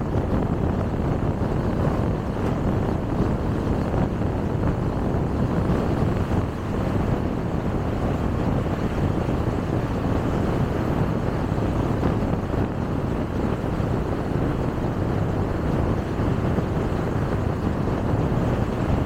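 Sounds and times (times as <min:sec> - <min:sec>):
car tyres and wind rumble: 0:00.0 - 0:19.0.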